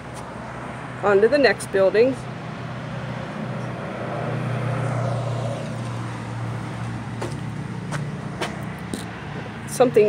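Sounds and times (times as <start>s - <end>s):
motor vehicle passing by: 0.0s - 10.0s.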